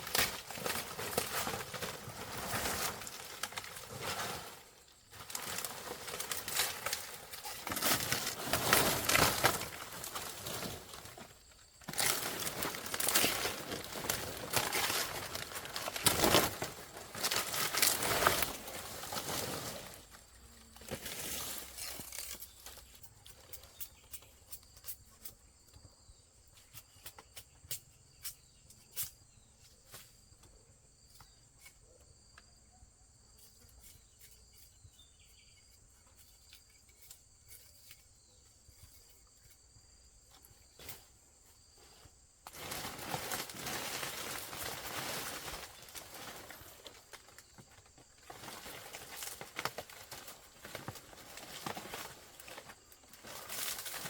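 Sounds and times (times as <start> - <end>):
rustling and crinkling: 0.0 - 25.8, 33.4 - 54.0
crickets trilling: 0.0 - 54.0.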